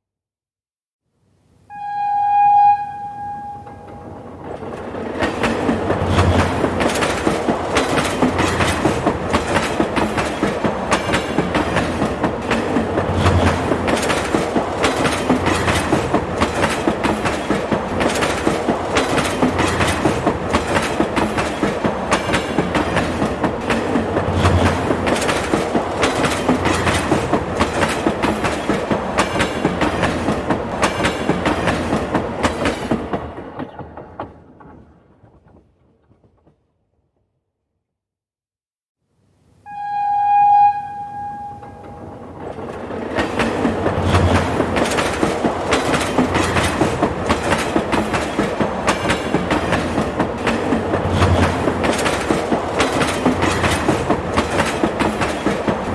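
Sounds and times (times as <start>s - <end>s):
train wheels clickety-clack: 3.8s - 36.8s, 41.7s - 55.9s.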